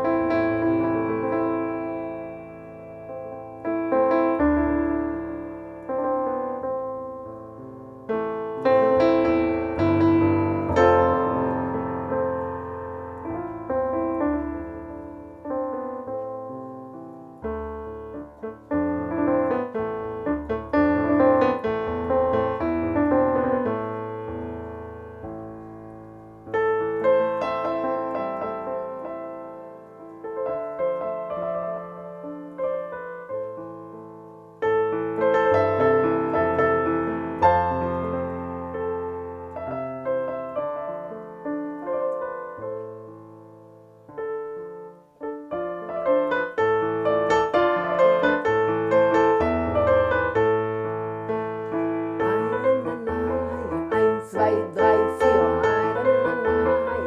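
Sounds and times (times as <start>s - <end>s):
solo piano melody: 0.0s - 57.0s.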